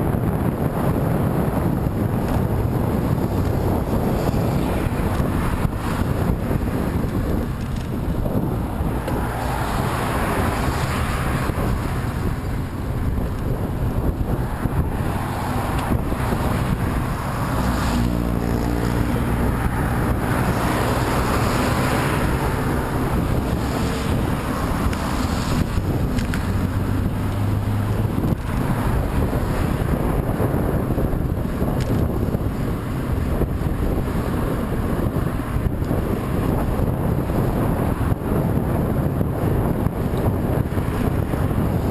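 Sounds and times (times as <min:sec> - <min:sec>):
motor vehicle droning hum: 0:00.0 - 0:41.9
wind buffeting microphone: 0:00.0 - 0:41.9.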